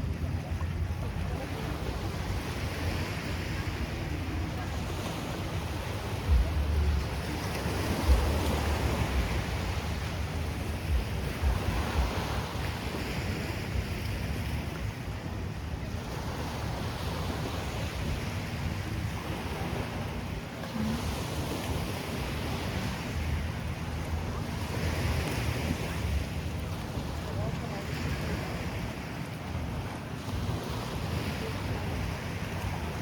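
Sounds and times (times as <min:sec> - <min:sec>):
surf washing on shore: 0:00.0 - 0:33.0
wind rumbling on microphone: 0:00.0 - 0:33.0.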